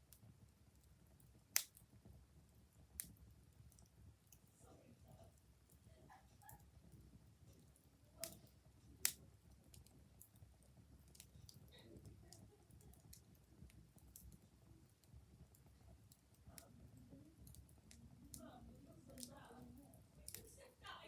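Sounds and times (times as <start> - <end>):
fire pops: 0.0 - 20.9
fire crackling: 0.0 - 21.0.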